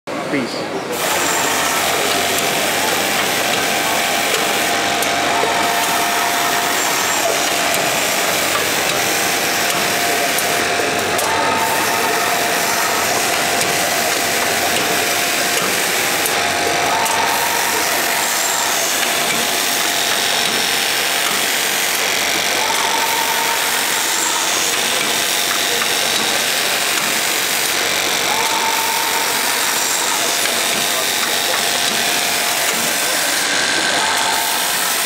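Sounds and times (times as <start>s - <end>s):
sewing machine clatter and hum: 0.9s - 35.0s.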